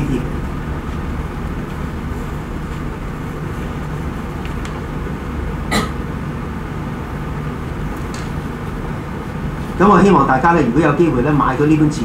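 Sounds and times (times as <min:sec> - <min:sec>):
low room hum and rumble: 0:00.0 - 0:12.0.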